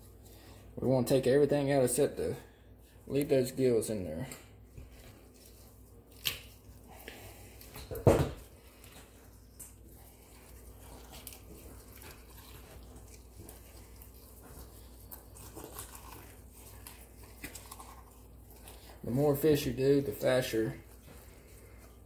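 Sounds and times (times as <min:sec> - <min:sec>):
wet squishing and rustling: 0:00.0 - 0:22.0.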